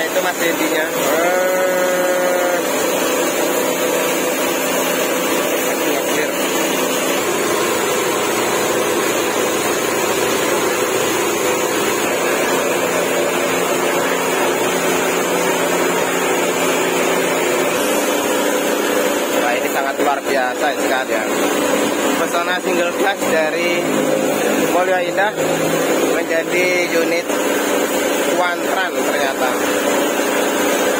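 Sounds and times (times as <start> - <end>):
continuous machine hiss: 0.0 - 30.9
low machine hum: 0.0 - 30.9.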